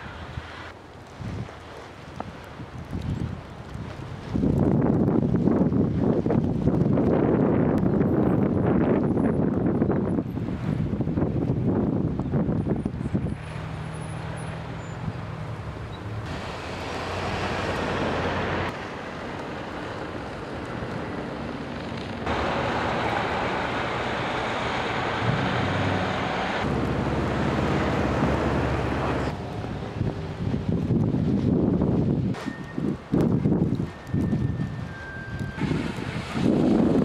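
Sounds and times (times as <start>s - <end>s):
vehicle engines: 0.0s - 0.9s, 7.1s - 37.0s
wind on microphone: 0.0s - 18.8s, 19.7s - 37.0s
road noise: 0.0s - 37.0s.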